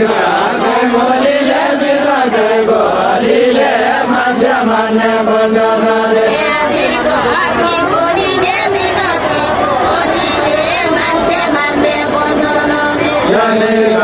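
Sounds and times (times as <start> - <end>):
voices singing a folk song: 0.0 - 14.0.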